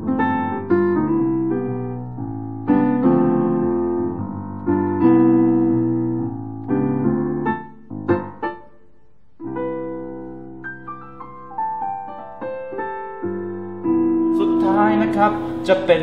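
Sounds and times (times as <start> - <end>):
digital piano chords: 0.0 - 16.0.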